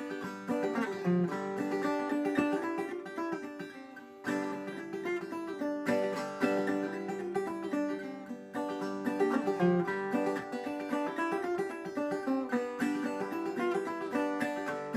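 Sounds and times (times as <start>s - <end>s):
banjo tune: 0.0s - 14.9s.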